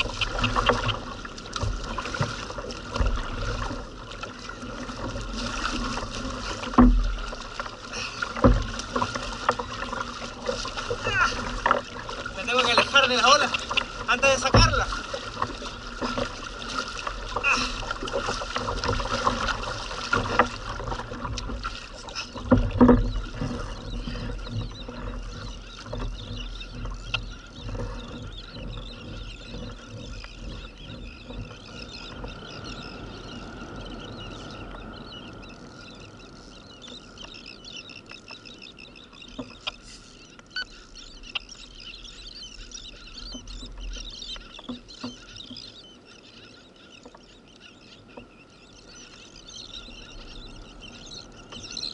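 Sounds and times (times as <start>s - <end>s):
paddle strokes splashing: 0.0s - 51.9s
water lapping around hull: 0.0s - 51.9s.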